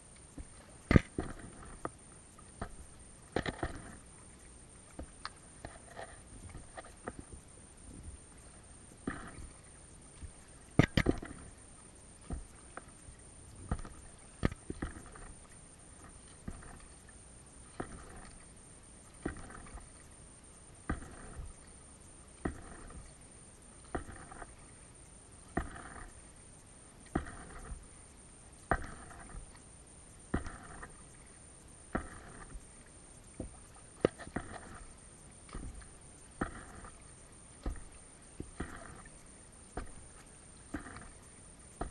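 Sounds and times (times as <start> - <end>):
paddle splashing water: 0.0 - 20.1, 20.8 - 41.9.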